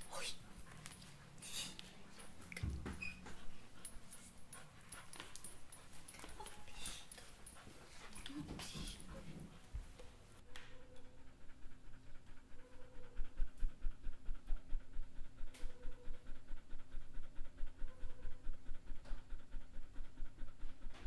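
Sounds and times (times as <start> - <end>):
rapid rhythmic panting: 0.0 - 21.0
steady low hum: 0.0 - 21.0.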